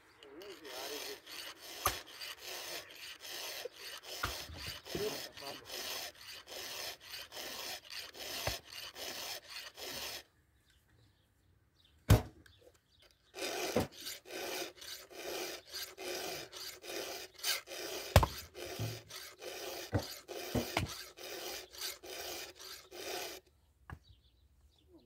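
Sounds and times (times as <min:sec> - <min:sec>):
hand file rasping on saw chain: 0:00.1 - 0:10.3, 0:13.4 - 0:23.5.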